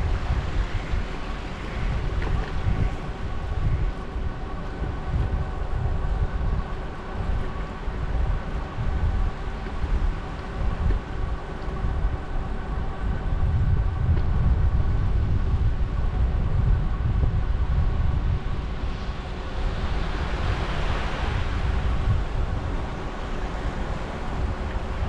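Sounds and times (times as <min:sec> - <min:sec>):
faint multi-tone whine: 0:00.0 - 0:25.0
wind buffeting microphone: 0:00.0 - 0:25.0.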